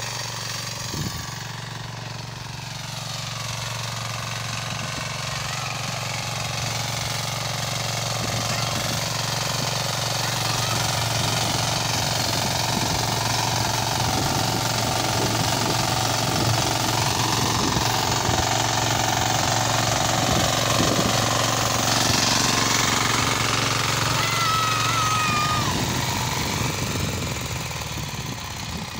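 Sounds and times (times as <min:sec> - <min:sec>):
tiller engine chugging: 0:00.0 - 0:28.9
tines digging dry soil: 0:00.0 - 0:28.9.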